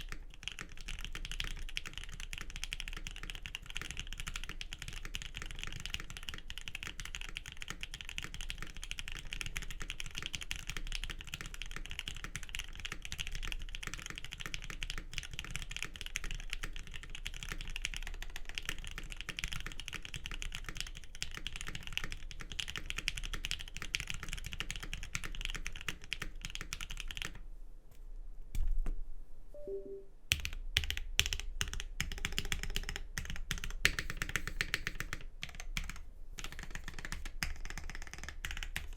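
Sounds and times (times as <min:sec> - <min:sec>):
mechanical keyboard typing: 0:00.0 - 0:27.4, 0:30.3 - 0:38.9.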